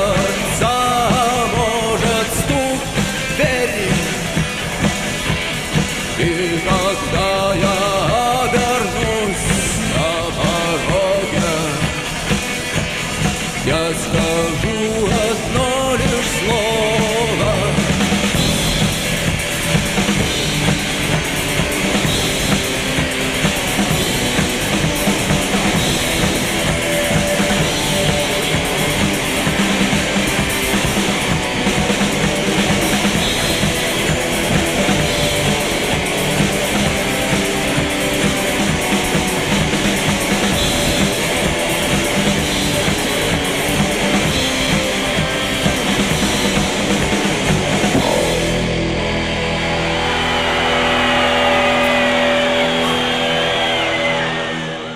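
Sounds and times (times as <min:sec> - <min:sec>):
drum kit: 0:00.0 - 0:53.8
rock guitar: 0:00.0 - 0:54.9.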